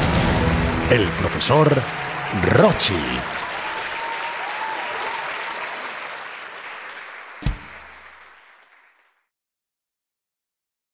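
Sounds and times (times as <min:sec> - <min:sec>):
audience applause: 0:00.4 - 0:09.3.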